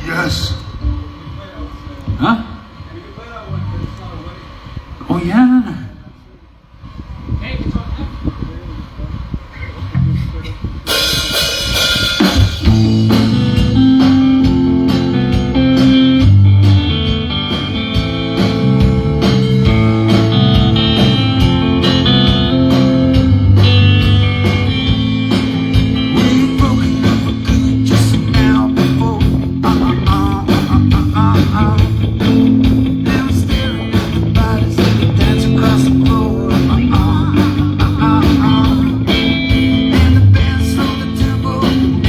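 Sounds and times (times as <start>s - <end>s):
drum kit: 0.0s - 2.0s, 9.9s - 42.0s
bass guitar: 0.0s - 2.6s, 9.1s - 42.0s
guitar: 0.0s - 4.2s, 9.6s - 42.0s.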